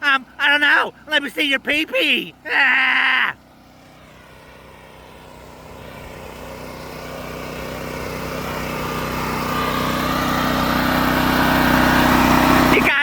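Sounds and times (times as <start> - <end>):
portable generator engine running: 0.0 - 13.0.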